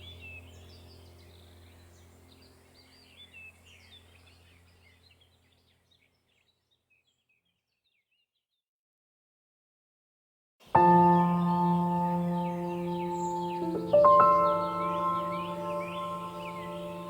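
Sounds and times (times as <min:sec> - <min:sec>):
small birds chirping: 0:00.0 - 0:08.6, 0:10.6 - 0:17.0.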